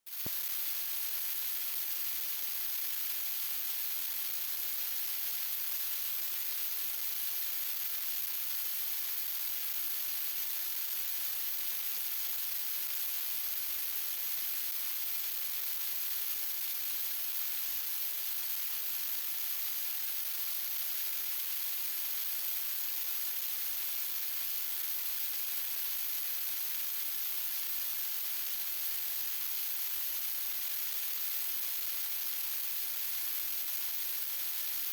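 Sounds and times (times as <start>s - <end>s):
steady hiss: 0.1s - 34.9s.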